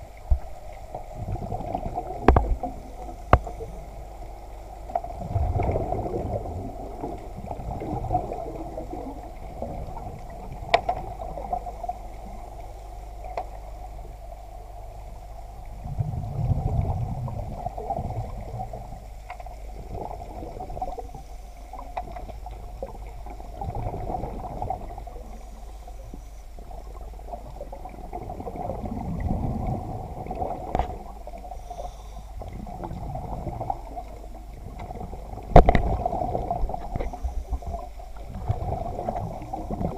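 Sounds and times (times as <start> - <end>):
low rumble and hum: 0.0 - 39.9
underwater water surges: 0.0 - 39.9.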